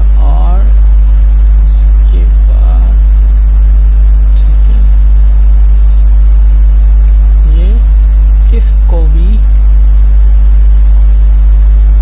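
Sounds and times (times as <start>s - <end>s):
faint steady tones: 0.0s - 12.0s
loud steady low hum: 0.0s - 12.0s.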